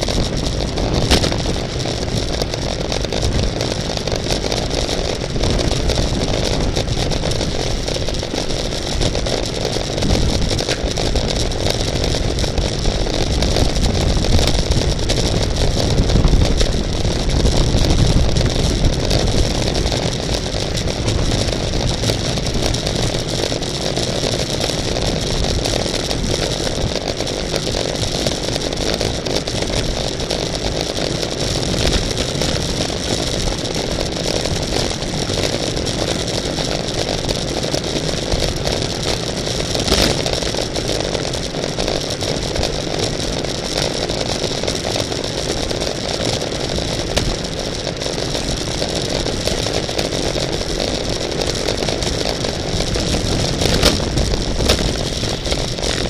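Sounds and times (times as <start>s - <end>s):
deep rumble: 0.0s - 42.7s, 45.3s - 56.0s
bicycle road noise: 0.0s - 56.0s
wind rushing on microphone: 0.0s - 56.0s.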